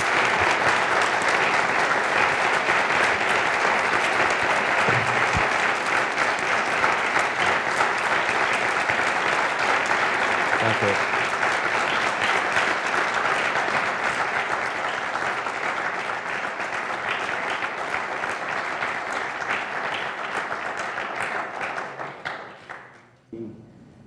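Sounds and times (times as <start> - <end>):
audience applauding: 0.0 - 23.1.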